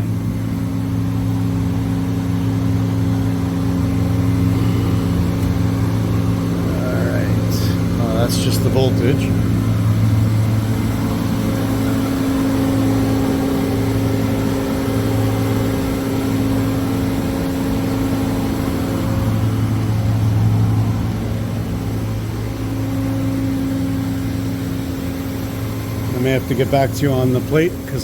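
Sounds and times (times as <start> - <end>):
machine idling hum: 0.0 - 28.0.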